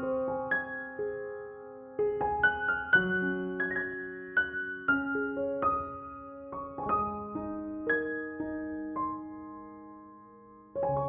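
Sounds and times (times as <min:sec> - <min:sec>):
gentle solo piano music: 0:00.0 - 0:11.0.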